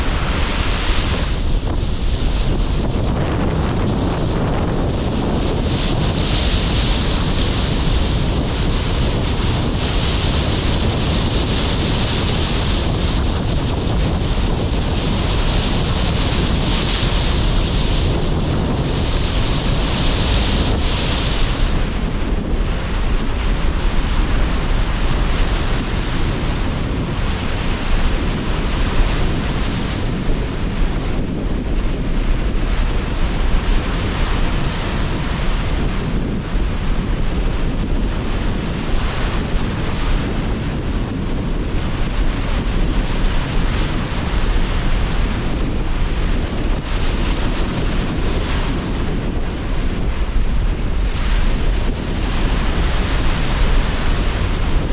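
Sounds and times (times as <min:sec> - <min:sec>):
sea surf breaking: 0:00.0 - 0:54.9
wind buffeting microphone: 0:00.0 - 0:54.9.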